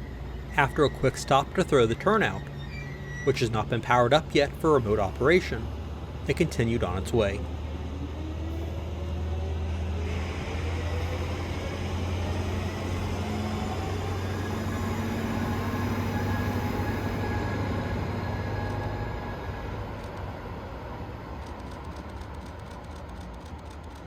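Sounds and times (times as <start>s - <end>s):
locomotive engine drone: 0.0s - 24.0s.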